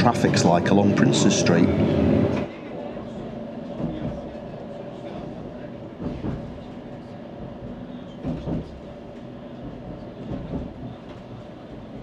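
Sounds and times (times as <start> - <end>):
tram rumbling: 0.0 - 12.0.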